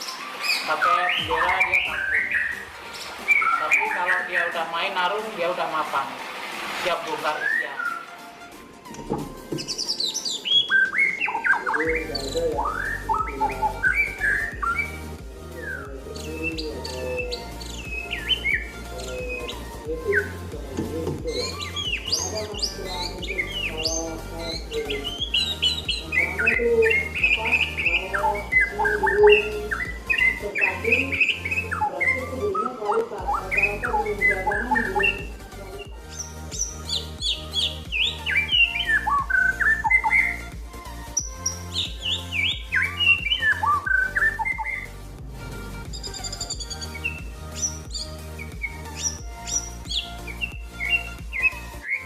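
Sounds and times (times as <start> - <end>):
songbird whistling song: 0.0 - 4.7, 7.3 - 45.1, 45.8 - 52.0
background music with low bass: 0.0 - 52.0.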